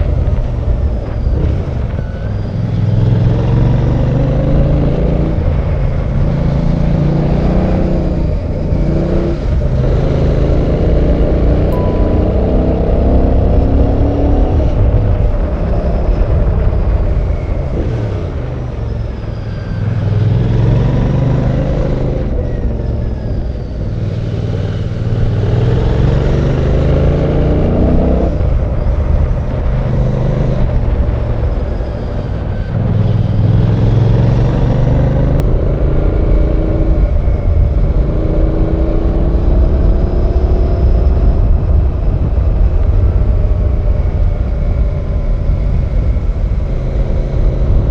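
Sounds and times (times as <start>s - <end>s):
motorcycle engine revving: 1.1s - 43.4s.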